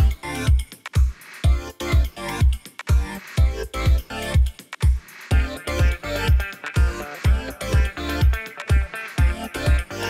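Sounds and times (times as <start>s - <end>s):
music with heavy bass beat: 0.0s - 10.0s.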